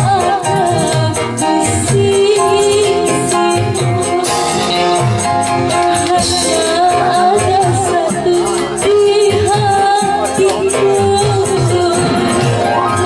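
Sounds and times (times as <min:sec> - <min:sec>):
keyboard: 0:00.0 - 0:13.0
woman singing into a microphone: 0:00.0 - 0:13.0.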